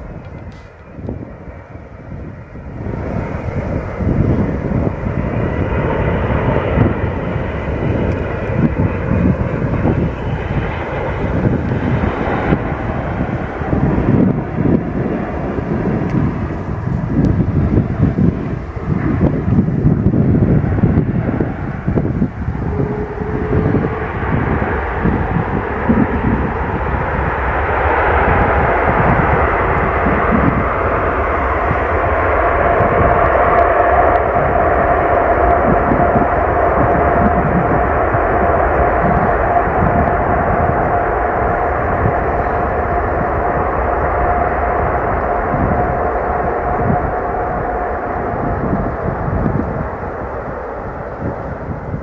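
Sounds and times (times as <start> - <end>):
faint jet whine: 0.0 - 52.0
jet engines rumbling: 0.0 - 52.0.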